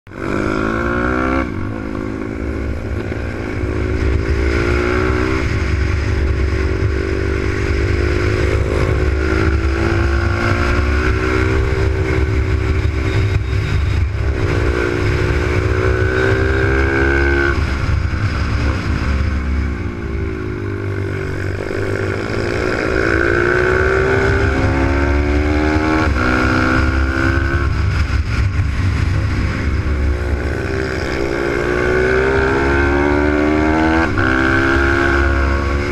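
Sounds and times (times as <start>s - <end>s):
motorbike engine revving: 0.1s - 35.9s
low rumble: 1.5s - 34.5s.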